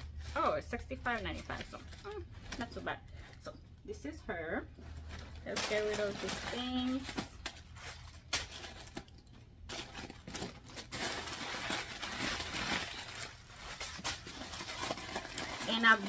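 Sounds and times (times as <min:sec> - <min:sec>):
tissue paper crinkling and rustling: 0:00.0 - 0:03.3, 0:04.8 - 0:16.0.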